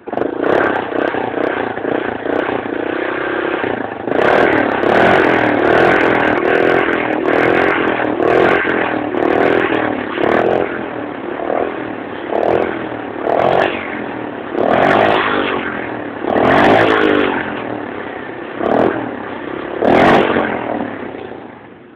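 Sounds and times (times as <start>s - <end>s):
engine throttle blips: 0.0s - 21.9s.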